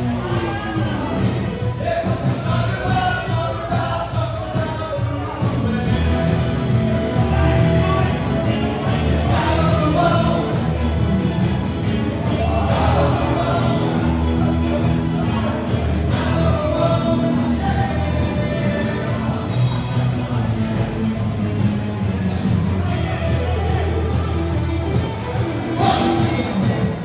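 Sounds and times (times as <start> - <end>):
person singing: 0.0 - 21.0, 22.8 - 27.0
drum beat: 0.0 - 27.0
live band playing: 0.0 - 27.0.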